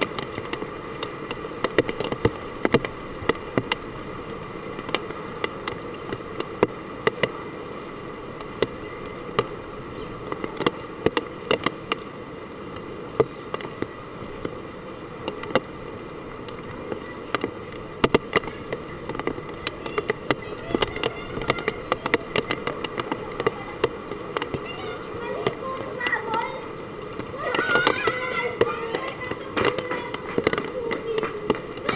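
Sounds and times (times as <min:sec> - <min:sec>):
heavy rain hissing: 0:00.0 - 0:31.9
raindrops hitting hard surface: 0:00.0 - 0:31.9.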